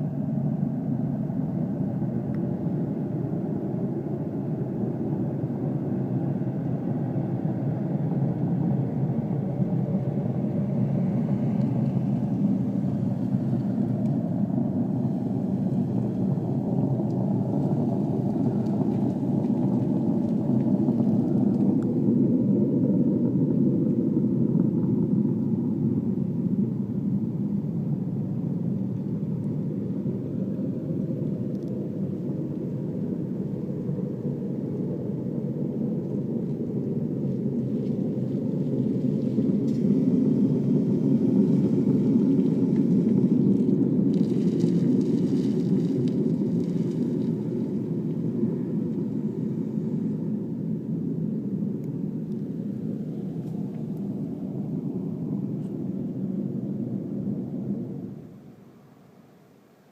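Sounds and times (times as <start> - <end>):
low droning rumble: 0.0 - 58.7.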